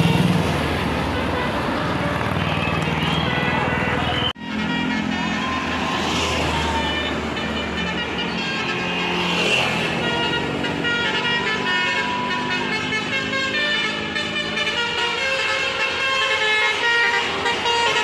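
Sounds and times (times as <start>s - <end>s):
bus engine running: 0.0s - 9.2s, 9.8s - 18.0s
multi-tone bus horn playing a tune: 0.0s - 18.0s.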